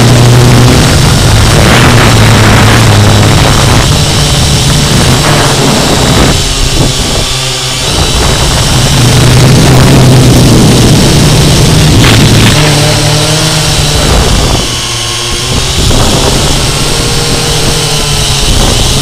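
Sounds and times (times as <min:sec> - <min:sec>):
quadcopter motors whirring: 0:00.0 - 0:19.0.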